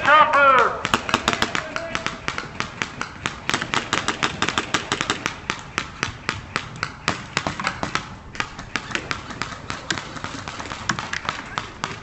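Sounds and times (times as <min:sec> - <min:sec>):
airsoft gunfire: 0:00.0 - 0:12.0.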